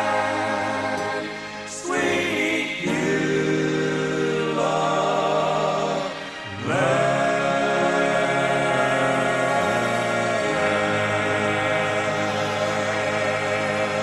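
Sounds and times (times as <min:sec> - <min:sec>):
vocal group singing held chords: 0:00.0 - 0:14.0.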